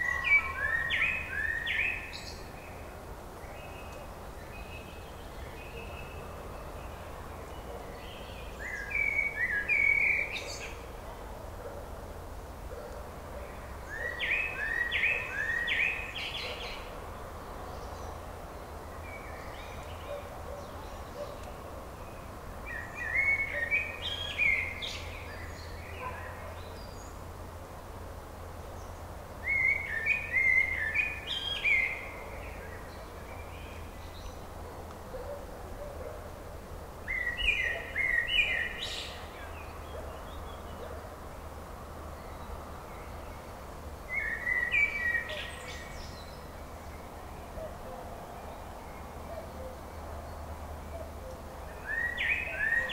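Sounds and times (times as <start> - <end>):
songbird singing: 0.0 - 52.9
steady background hiss: 0.0 - 52.9.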